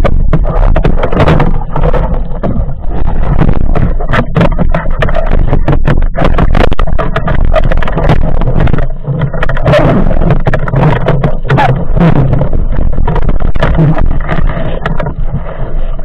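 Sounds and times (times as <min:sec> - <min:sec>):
sharp clicks and knocks: 0:00.0 - 0:15.6
low underwater rumble: 0:00.0 - 0:16.0
underwater water rushing: 0:00.0 - 0:16.0.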